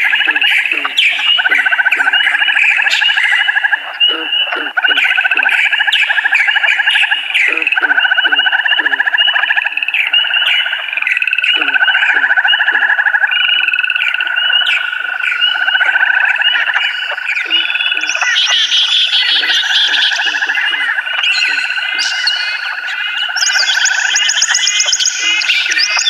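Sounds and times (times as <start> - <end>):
low croak-like notes: 0.0 - 26.0.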